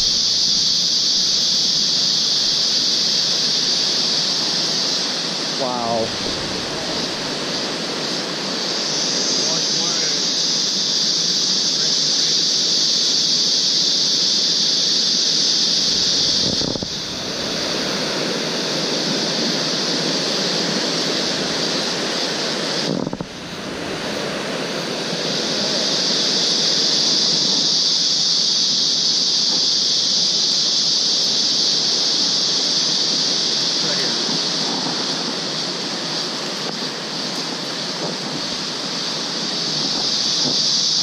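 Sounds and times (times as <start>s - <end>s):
river rushing over rocks: 0.0s - 10.1s, 14.6s - 41.0s
high steady hiss: 0.0s - 41.0s.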